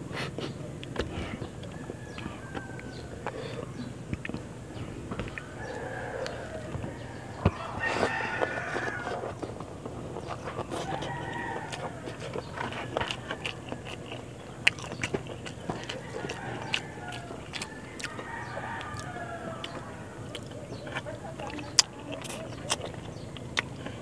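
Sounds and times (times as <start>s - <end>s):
eating by hand clicks and smacks: 0.2s - 24.0s
roosters crowing: 1.0s - 24.0s.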